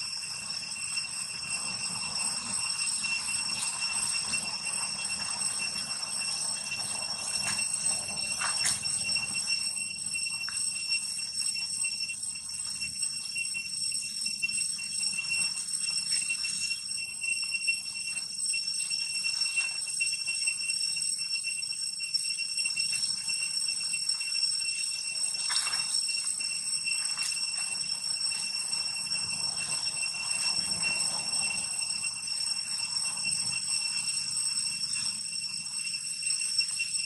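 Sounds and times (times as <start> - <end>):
high-pitched insect drone: 0.0 - 37.0.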